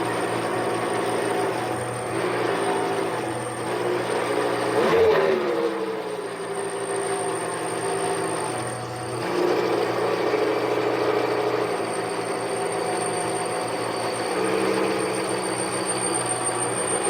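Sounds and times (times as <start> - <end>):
lathe motor hum: 0.0 - 17.0.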